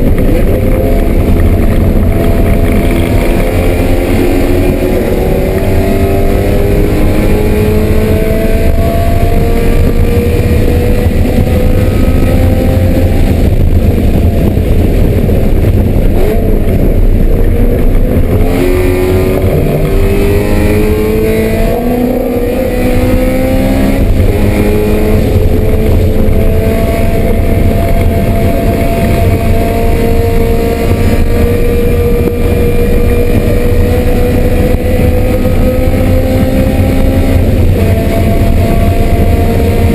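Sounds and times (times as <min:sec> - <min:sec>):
race car engine at full throttle: 0:00.0 - 0:39.9
road and wind rumble: 0:00.0 - 0:39.9.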